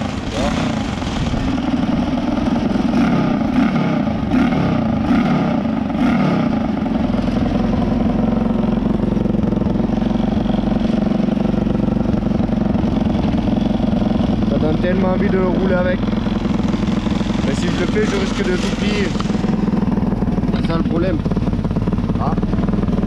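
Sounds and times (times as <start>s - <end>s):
lawn mower engine revving and idling: 0.0s - 23.0s.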